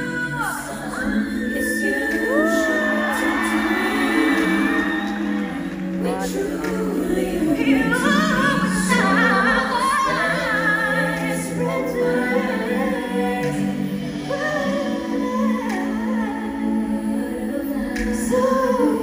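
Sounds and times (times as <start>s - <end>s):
woman singing pop ballad: 0.0s - 19.0s.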